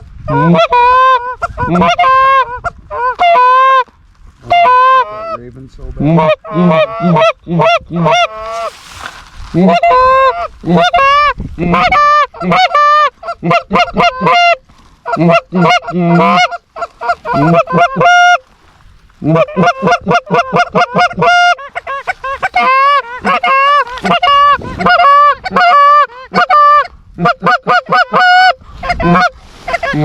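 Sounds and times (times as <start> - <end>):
goose honking and clucking: 0.0 - 8.8, 9.6 - 18.5, 19.2 - 30.0.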